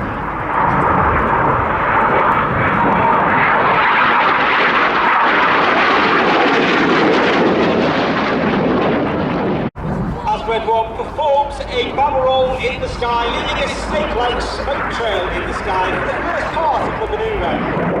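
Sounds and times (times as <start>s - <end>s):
jets flying low past: 0.0s - 18.0s.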